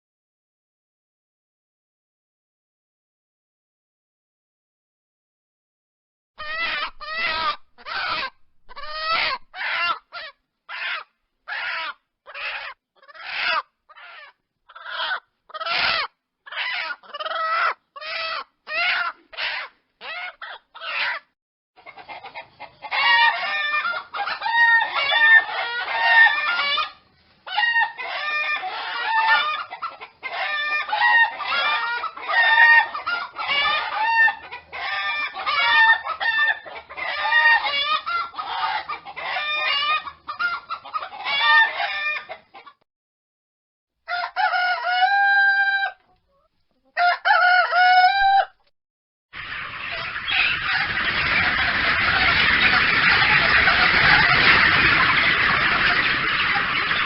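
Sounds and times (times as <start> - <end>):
chickens clucking: 6.4 - 42.8, 44.1 - 48.4, 49.4 - 57.0.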